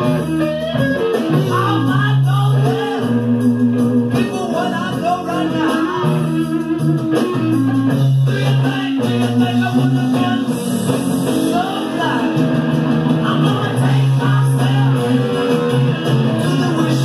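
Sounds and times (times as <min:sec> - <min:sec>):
bending lead guitar line: 0:00.0 - 0:17.0
live rock band playing: 0:00.0 - 0:17.0.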